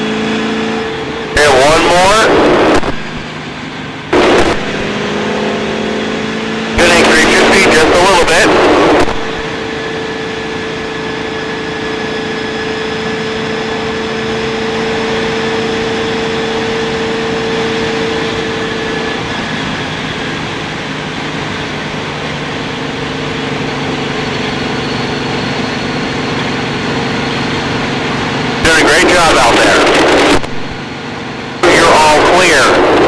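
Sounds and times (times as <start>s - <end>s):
race car engine: 0.0s - 33.0s
wind and road noise: 0.0s - 33.0s.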